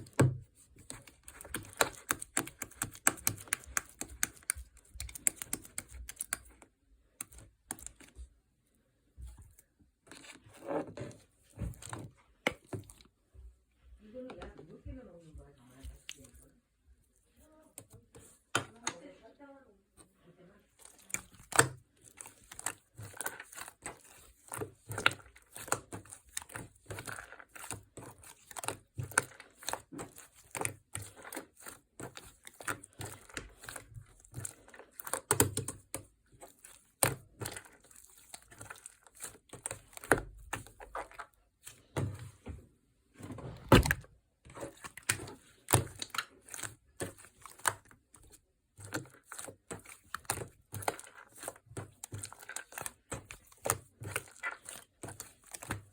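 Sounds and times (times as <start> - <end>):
slime crackling and squelching: 0.0 - 8.4, 9.0 - 13.3, 15.4 - 19.2, 20.6 - 42.5, 43.2 - 55.9.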